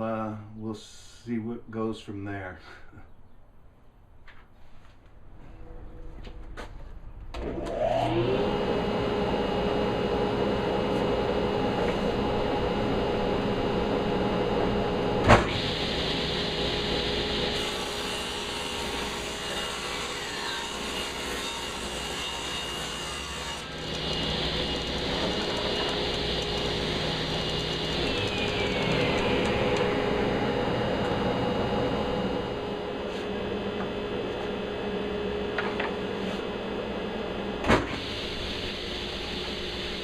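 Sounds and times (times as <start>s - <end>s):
electric saw cutting wood: 7.4s - 40.0s.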